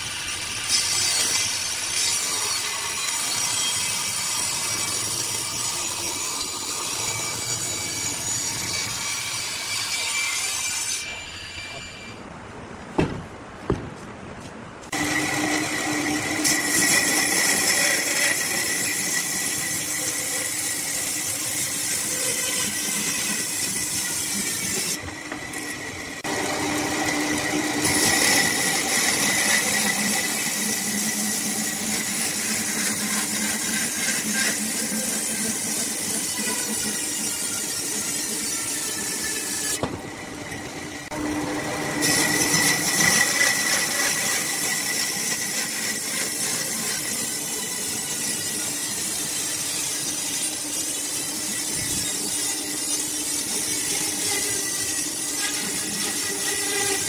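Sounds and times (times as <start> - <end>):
bandsaw cutting a log: 0.0 - 11.9, 14.9 - 57.0.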